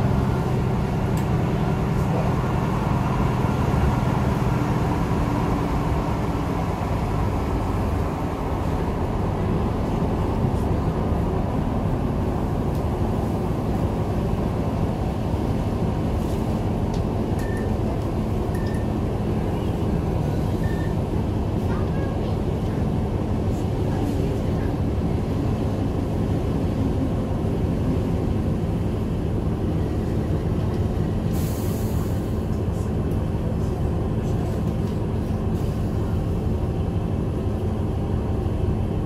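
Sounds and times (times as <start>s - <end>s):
train engine drone: 0.0s - 39.0s
wheels rumbling on rails: 0.0s - 39.0s.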